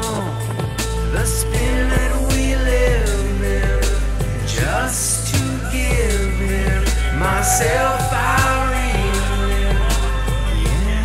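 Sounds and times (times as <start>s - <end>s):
song with low bass: 0.0s - 11.0s.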